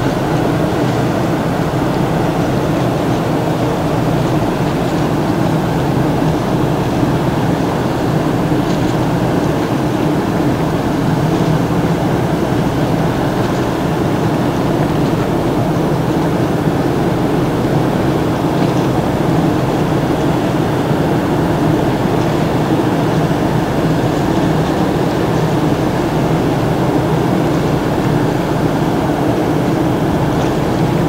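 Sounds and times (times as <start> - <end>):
ship engine low rumble: 0.0 - 31.0.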